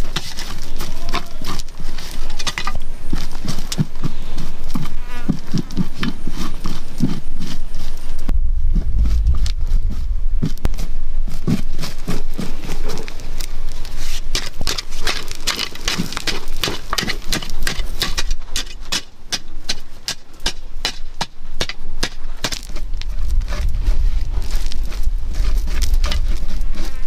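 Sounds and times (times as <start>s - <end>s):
loose earth and stones rattling: 0.0s - 27.0s.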